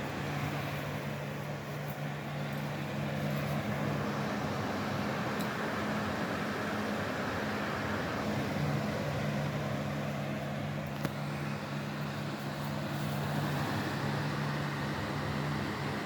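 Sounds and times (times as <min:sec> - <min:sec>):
vacuum fan motor whirring: 0:00.0 - 0:16.0.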